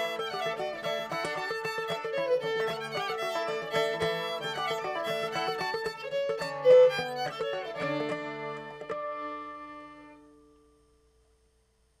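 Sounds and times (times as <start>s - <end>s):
fiddle and banjo playing: 0.0s - 10.3s.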